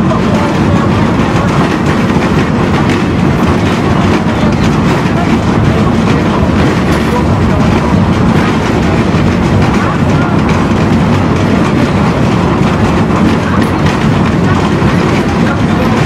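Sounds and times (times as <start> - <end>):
tram wheels on rails: 0.0 - 16.0.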